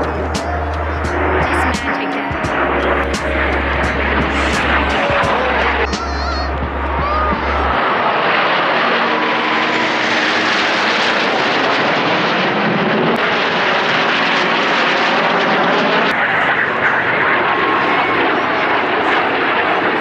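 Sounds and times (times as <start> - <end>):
aircraft engine overhead: 0.0 - 20.0.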